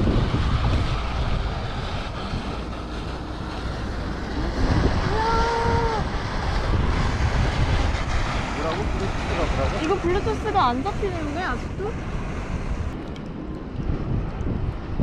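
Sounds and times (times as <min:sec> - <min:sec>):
rushing water: 0:00.0 - 0:13.2
wind buffeting microphone: 0:00.0 - 0:15.0.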